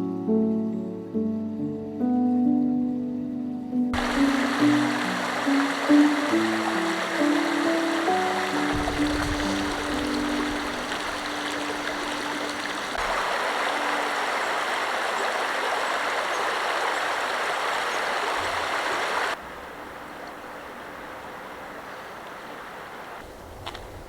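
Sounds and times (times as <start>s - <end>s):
creek water rushing over stones: 4.0s - 23.3s.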